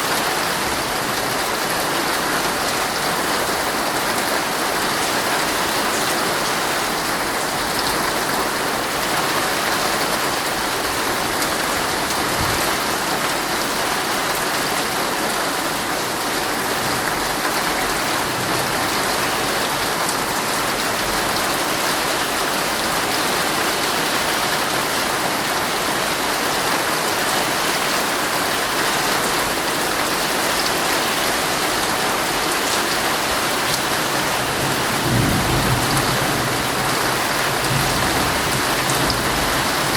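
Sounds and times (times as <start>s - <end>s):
heavy rain drumming on a tent: 0.0s - 39.9s.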